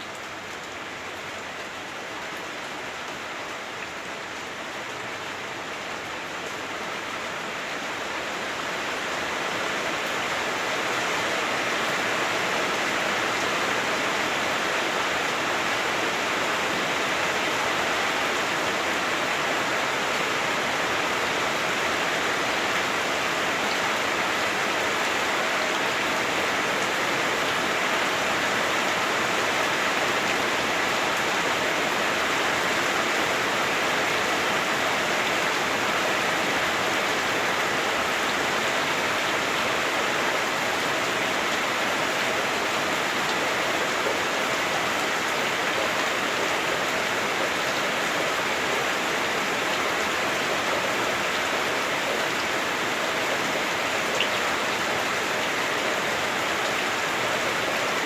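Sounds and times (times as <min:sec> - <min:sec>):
heavy rain drumming on roof: 0:00.1 - 0:58.0.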